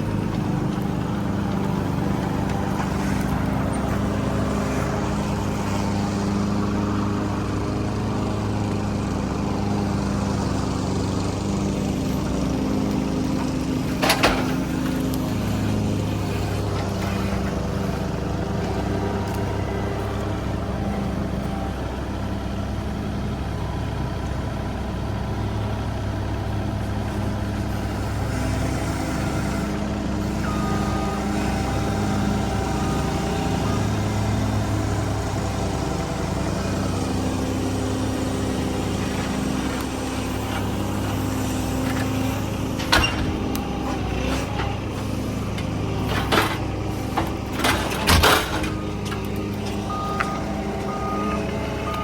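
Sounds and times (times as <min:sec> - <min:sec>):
heavy equipment engine running: 0:00.0 - 0:52.0.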